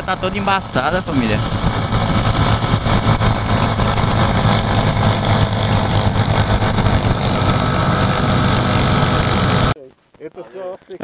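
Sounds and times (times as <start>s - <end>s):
motorcycle engine running: 0.0s - 9.8s
wind rushing: 0.0s - 9.8s.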